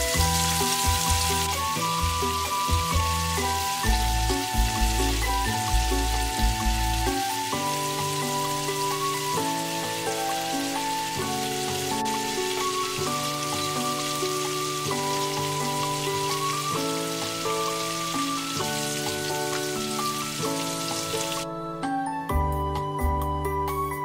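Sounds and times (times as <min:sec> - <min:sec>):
deep-frying crackling sizzle: 0:00.0 - 0:21.5
music of held notes: 0:00.0 - 0:24.0.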